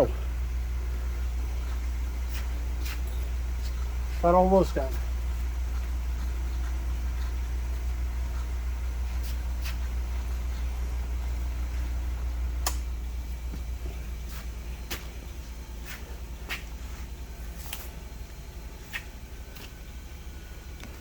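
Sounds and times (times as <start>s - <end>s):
machine motor humming: 0.0s - 21.0s.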